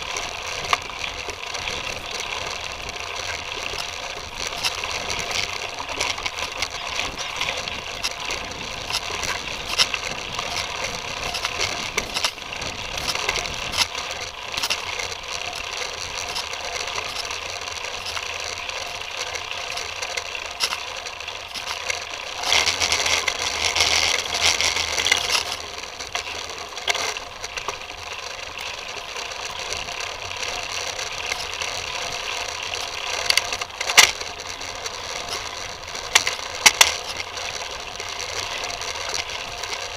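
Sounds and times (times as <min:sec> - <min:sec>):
bike rattling and clicking: 0:00.0 - 0:39.9
bike tyres on dirt trail: 0:00.0 - 0:39.9.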